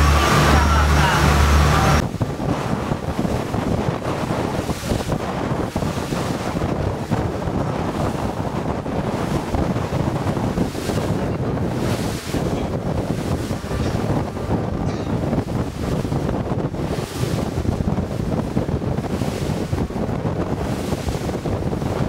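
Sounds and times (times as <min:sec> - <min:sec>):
water rushing past hull: 0:00.0 - 0:22.0
wind blowing on microphone: 0:00.0 - 0:22.0.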